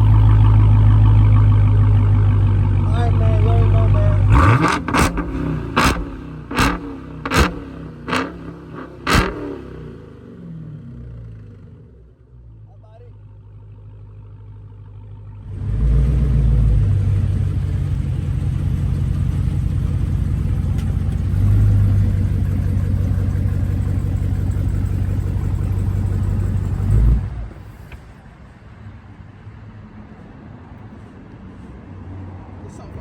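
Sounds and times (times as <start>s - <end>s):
car engine idling with low rumble: 0.0s - 28.6s.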